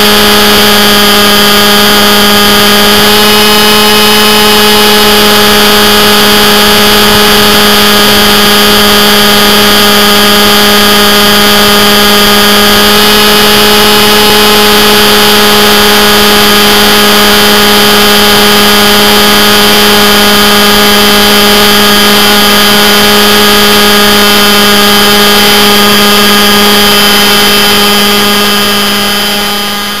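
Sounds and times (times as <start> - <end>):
high whine: 0.0 - 30.0
model helicopter motor and rotor: 0.0 - 30.0.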